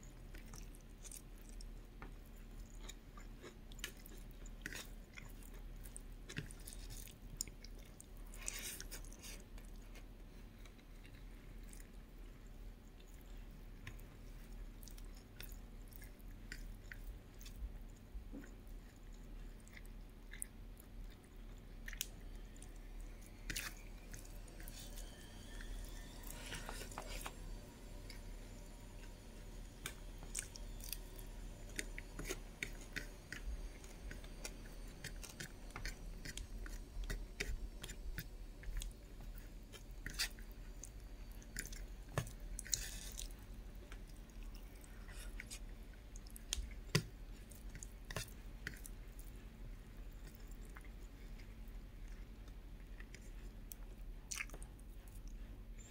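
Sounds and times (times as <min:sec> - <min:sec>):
steady low hum: 0:00.0 - 0:55.9
person chewing food: 0:00.1 - 0:55.9.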